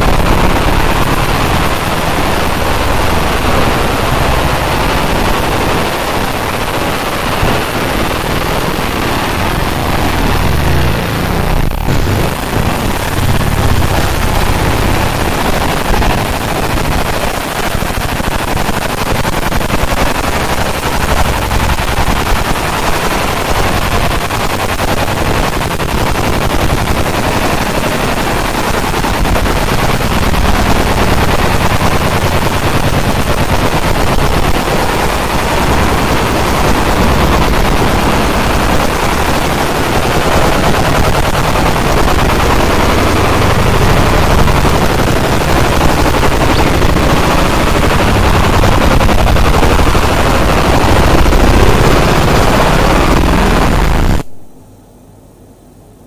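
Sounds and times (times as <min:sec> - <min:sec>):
laser engraver crackling buzz: 0:00.0 - 0:54.2
extraction fan noise: 0:00.0 - 0:54.4.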